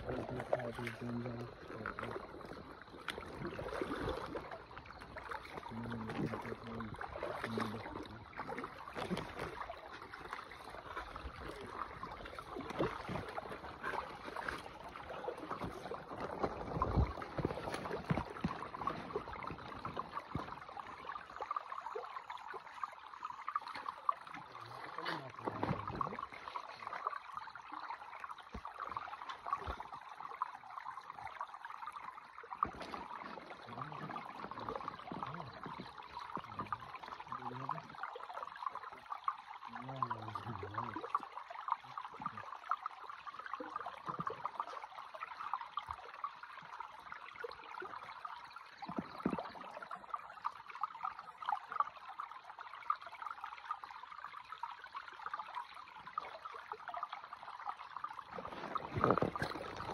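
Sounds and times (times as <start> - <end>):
stream water running over stones: 0.0 - 59.9.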